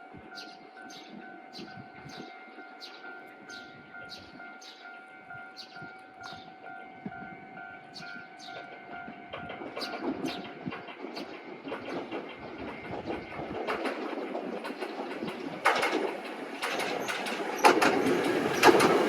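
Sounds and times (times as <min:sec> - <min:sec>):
train running noise: 0:00.0 - 0:19.0.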